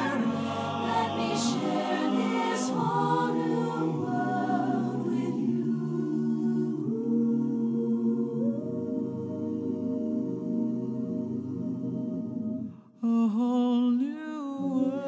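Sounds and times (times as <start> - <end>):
choir singing slow chords: 0.0 - 13.0.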